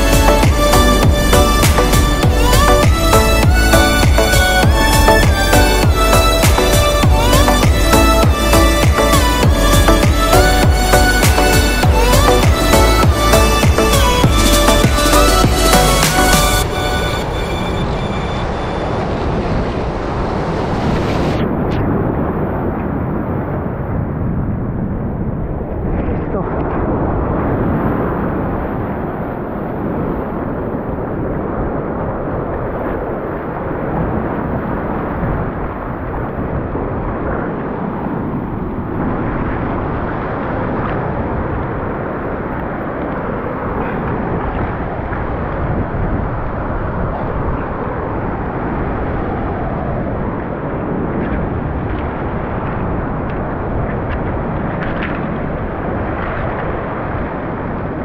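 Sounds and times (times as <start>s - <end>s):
sea surf rushing: 0.0s - 58.0s
wind on microphone: 0.0s - 58.0s.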